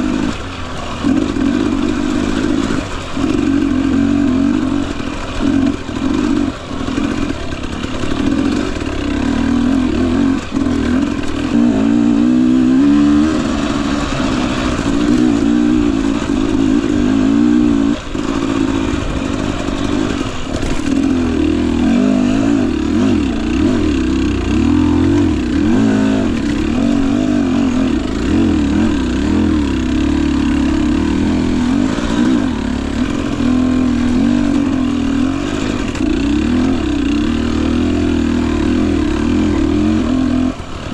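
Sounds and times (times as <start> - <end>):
two-stroke engine revving: 0.0 - 40.9.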